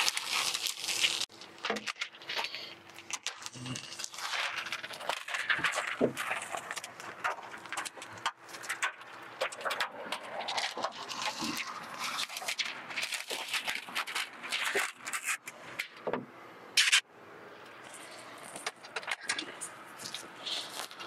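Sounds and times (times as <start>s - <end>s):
squeegee drawn over film on glass: 0.0s - 15.9s, 17.8s - 21.0s
plastic film crinkling and rustling: 0.0s - 16.1s, 17.8s - 21.0s.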